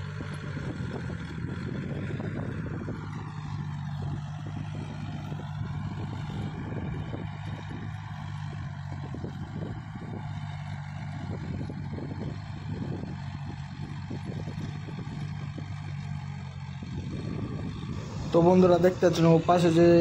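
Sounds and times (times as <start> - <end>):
tractor engine under load: 0.0 - 20.0.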